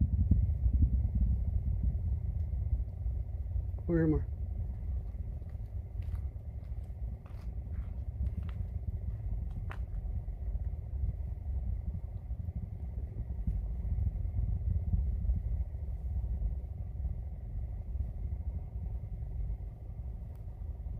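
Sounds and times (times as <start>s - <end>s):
distant rocket launch rumble: 0.0s - 20.9s.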